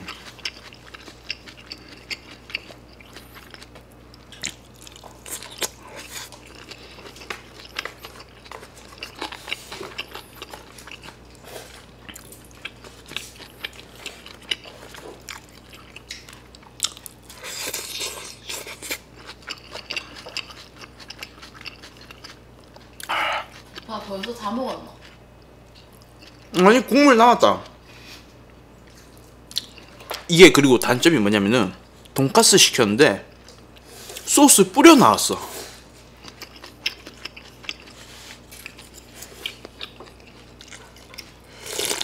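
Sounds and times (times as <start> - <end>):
person chewing food: 0.0 - 24.4, 25.0 - 26.6, 27.7 - 30.3, 35.6 - 42.0.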